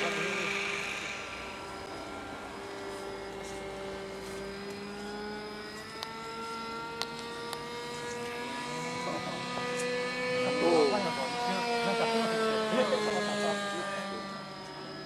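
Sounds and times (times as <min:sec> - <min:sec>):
model plane engine whine: 0:00.0 - 0:15.0.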